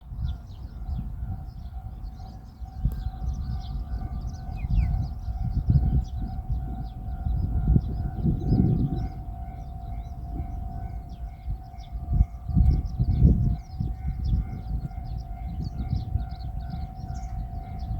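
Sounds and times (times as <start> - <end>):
birds chirping: 0.2 - 17.9
level-crossing alarm dinging: 1.4 - 17.9.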